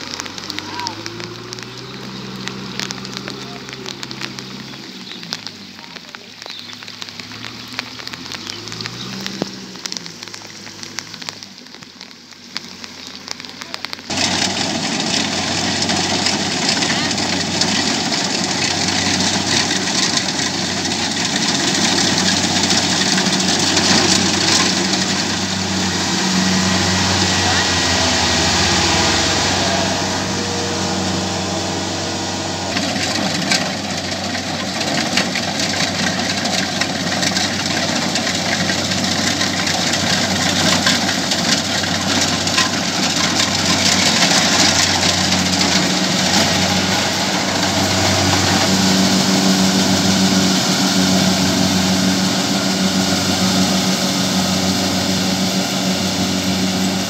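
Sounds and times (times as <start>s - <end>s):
combine harvester engine and threshing: 0.0s - 57.0s
rain hissing: 0.0s - 57.0s
tractor engine revving: 0.0s - 57.0s.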